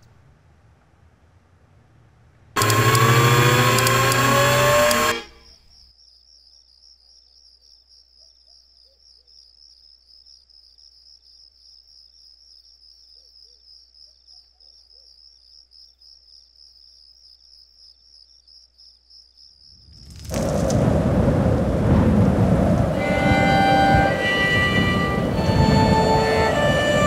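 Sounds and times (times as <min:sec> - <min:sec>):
crickets trilling: 0:02.6 - 0:27.0.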